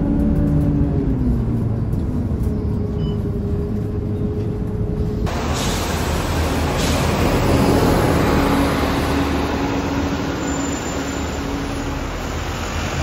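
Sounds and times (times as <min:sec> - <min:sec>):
diesel bus driving past: 0:00.0 - 0:13.0.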